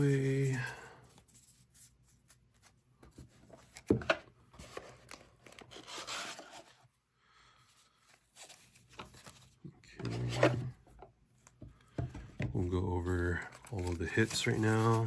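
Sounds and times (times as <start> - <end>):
cards and packaging rustling: 0.0 - 6.9, 7.6 - 15.0.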